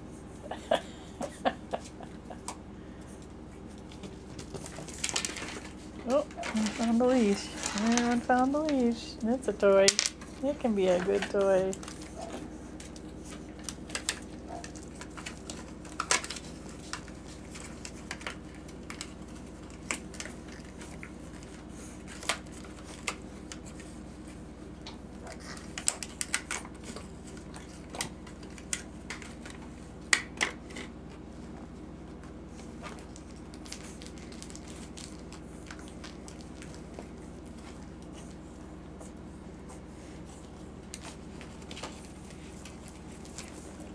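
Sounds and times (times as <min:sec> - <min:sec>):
steady low hum: 0:00.0 - 0:43.9
puppies clicking and tapping: 0:01.2 - 0:43.9.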